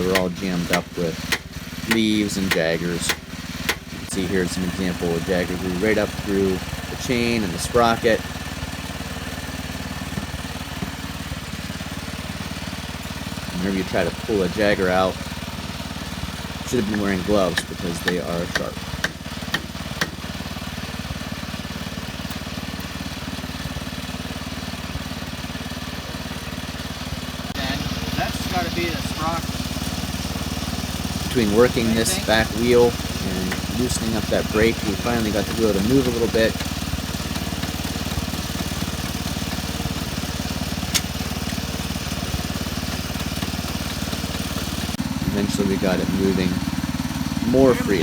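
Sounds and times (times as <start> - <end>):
small engine idling: 0.0 - 48.0.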